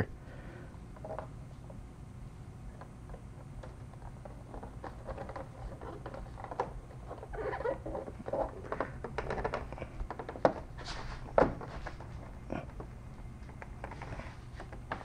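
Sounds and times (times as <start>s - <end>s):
plastic scraping and rubbing: 2.7s - 15.0s.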